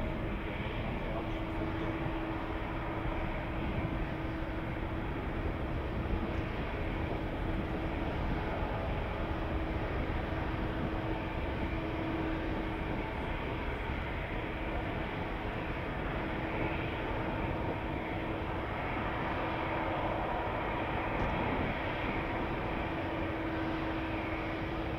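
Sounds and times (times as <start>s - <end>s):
jet engine hum: 0.0s - 24.9s
jet engines rumbling: 0.0s - 24.9s.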